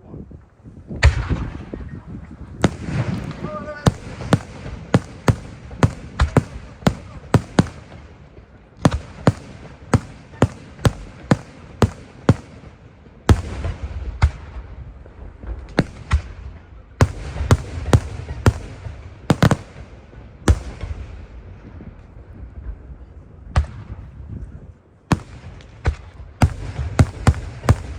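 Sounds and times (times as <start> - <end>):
fireworks bangs: 1.0 - 22.1, 25.1 - 27.9.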